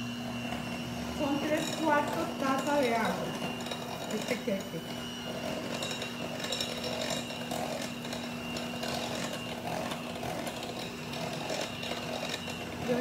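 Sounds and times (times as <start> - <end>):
electric mixer whirring: 0.0 - 13.0.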